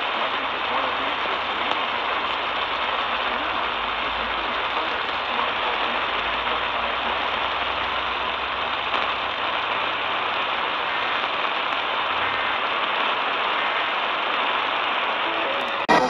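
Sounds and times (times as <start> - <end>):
faint crackle: 0.0 - 16.0
radio static hiss: 0.0 - 16.0.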